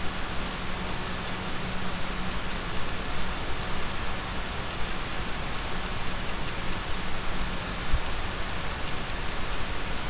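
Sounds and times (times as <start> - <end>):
microphone hiss: 0.0 - 10.0.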